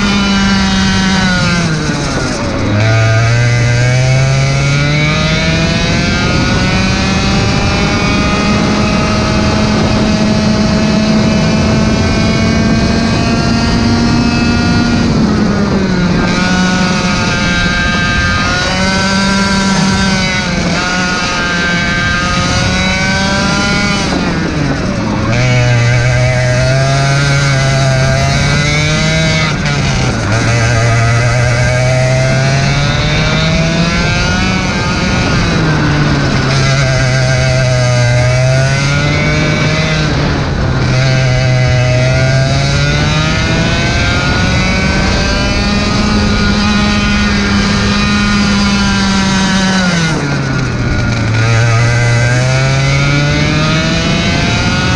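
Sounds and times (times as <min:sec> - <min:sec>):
kart engine accelerating: 0:00.0 - 0:54.9.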